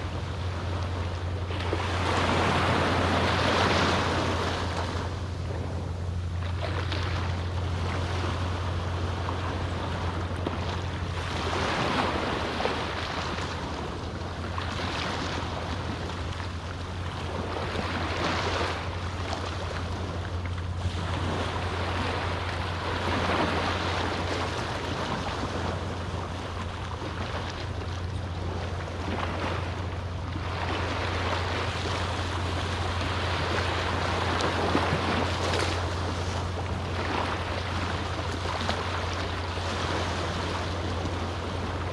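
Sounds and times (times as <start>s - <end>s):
small waves washing up a beach: 0.0s - 41.9s
steady low hum: 0.0s - 41.9s.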